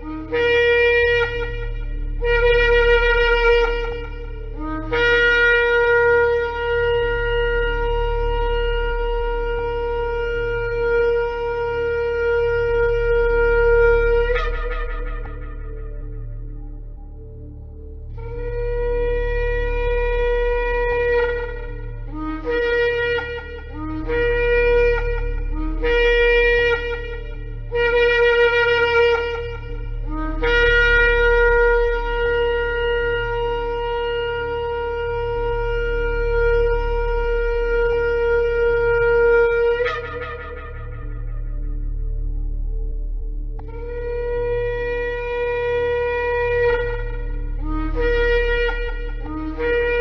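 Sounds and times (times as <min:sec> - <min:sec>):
shofar blasts: 0:00.0 - 0:50.0.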